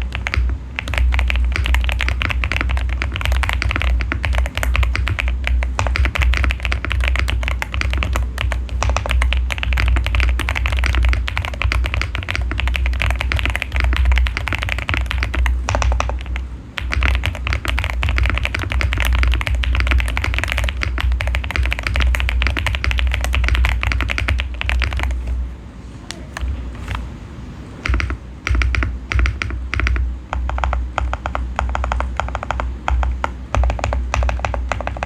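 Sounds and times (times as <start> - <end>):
mechanical keyboard typing: 0.0 - 25.4, 27.8 - 35.0.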